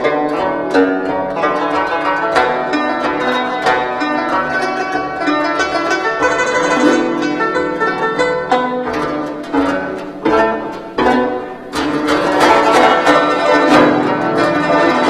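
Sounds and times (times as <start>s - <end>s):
plucked zither solo: 0.0s - 15.0s.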